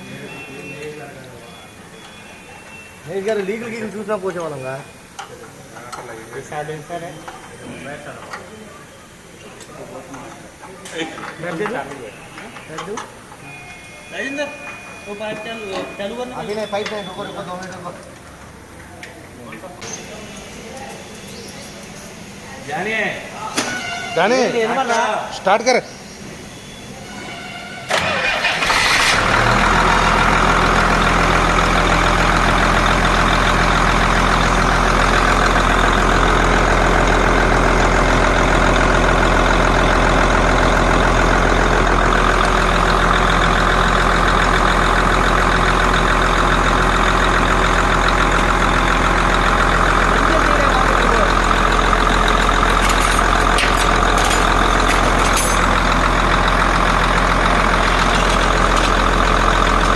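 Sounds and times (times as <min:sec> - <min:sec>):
diesel engine starting and idling: 0:00.0 - 0:59.9.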